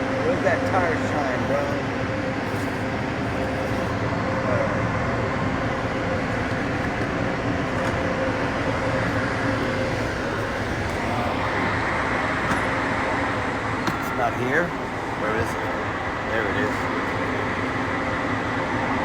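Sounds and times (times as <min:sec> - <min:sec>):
mechanical drone with low hum: 0:00.0 - 0:19.0.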